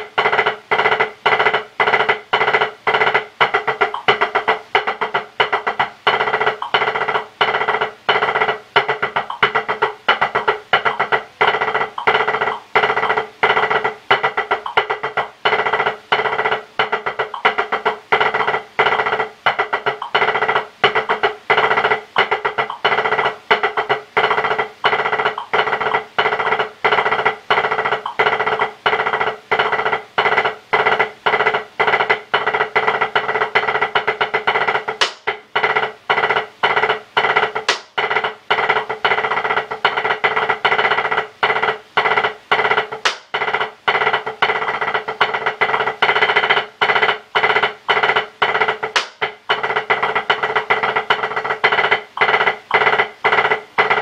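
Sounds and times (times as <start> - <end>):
drumsticks on practice pad: 0.0 - 54.0.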